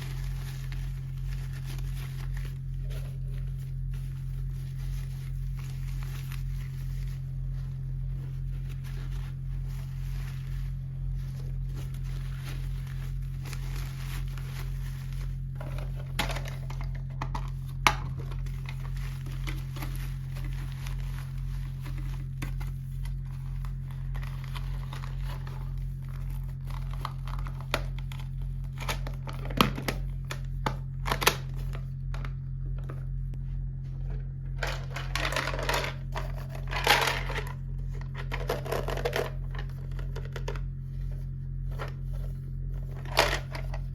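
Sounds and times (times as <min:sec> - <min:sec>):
plastic packaging crinkling: 0:00.0 - 0:32.4, 0:34.4 - 0:43.9
steady low hum: 0:00.0 - 0:43.9.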